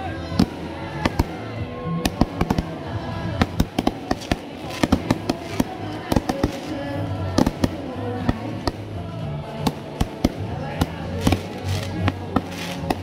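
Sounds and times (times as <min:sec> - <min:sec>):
music playing: 0:00.0 - 0:13.0
fireworks bangs and crackles: 0:00.2 - 0:13.0.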